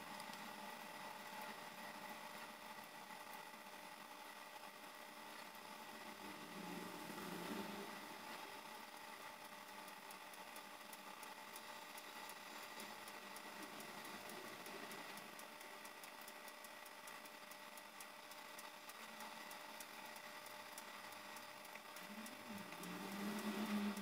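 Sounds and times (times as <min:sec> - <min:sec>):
rapid light ticking: 0:00.0 - 0:24.0
stove mechanical hum: 0:00.0 - 0:24.0.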